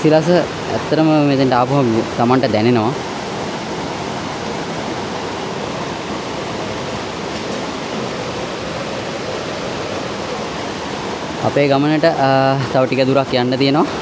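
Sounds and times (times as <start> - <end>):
waterfall rushing over rocks: 0.0 - 14.0.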